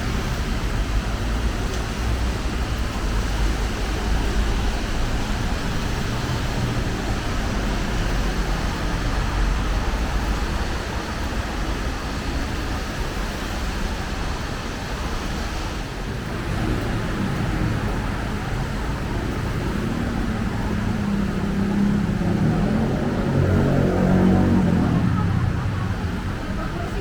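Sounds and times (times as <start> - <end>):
road traffic rumble and hiss: 0.0 - 27.0.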